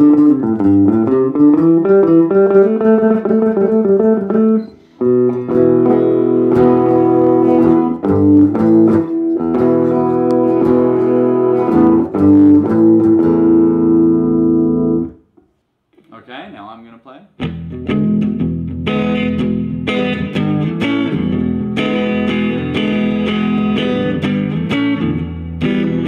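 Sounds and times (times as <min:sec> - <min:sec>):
amplified guitar playing: 0:00.0 - 0:15.2, 0:17.4 - 0:26.0.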